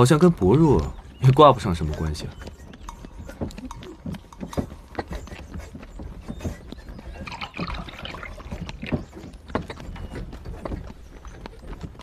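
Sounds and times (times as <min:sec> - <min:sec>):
hooves clip-clopping: 0:00.0 - 0:12.0.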